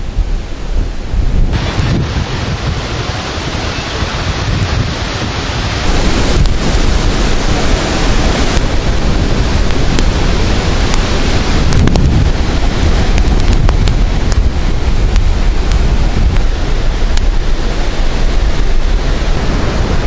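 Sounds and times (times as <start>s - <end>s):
storm wind buffeting microphone: 0.0s - 20.0s.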